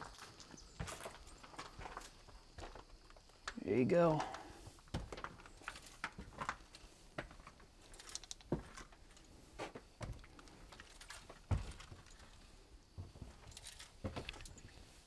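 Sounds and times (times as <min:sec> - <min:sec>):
footsteps on wooden stairs: 0:00.0 - 0:03.0, 0:04.2 - 0:15.0.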